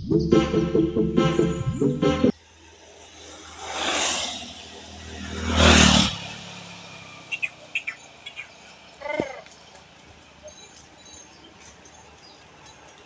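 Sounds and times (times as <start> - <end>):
vehicles passing by: 0.0 - 13.0.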